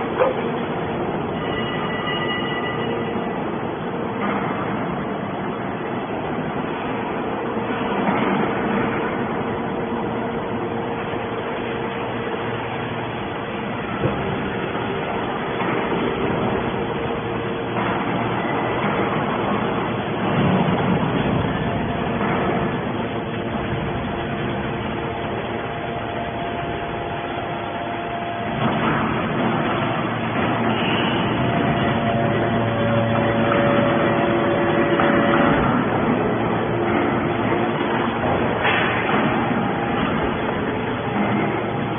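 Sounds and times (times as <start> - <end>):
hydraulic baler machine noise: 0.0 - 41.9.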